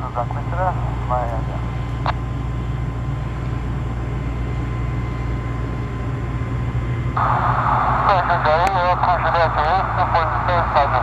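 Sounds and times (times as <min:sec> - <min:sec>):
twin piston engines droning: 0:00.0 - 0:11.0.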